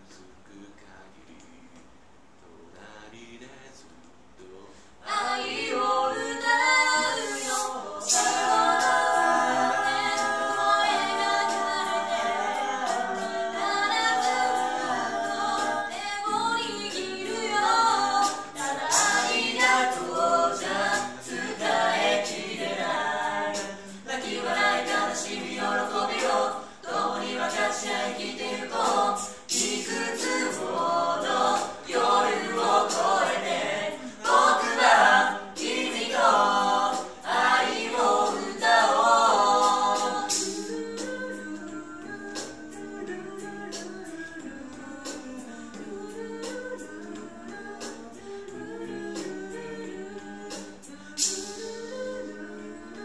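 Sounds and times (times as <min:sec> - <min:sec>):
a cappella group singing: 0:02.7 - 0:53.0.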